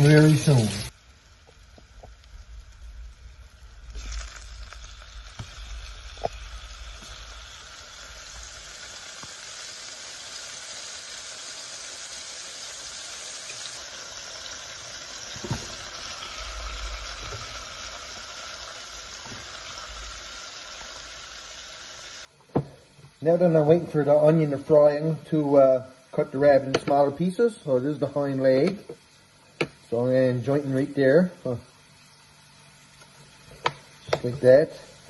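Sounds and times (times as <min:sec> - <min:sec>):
meat sizzling in a pan: 0:00.0 - 0:35.0.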